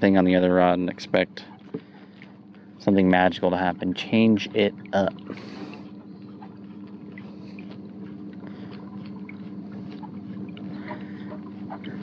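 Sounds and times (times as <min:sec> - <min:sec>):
electric motor hum: 0:00.0 - 0:12.0.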